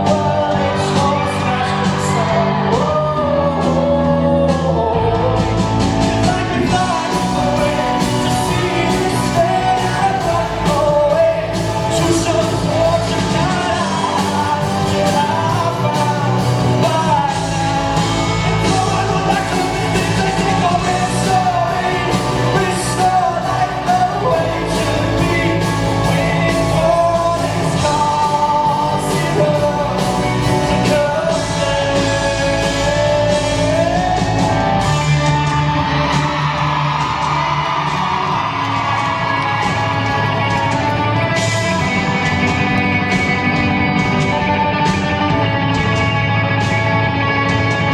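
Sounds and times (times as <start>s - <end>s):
lead singer singing: 0.0s - 47.9s
live rock band playing: 0.0s - 47.9s.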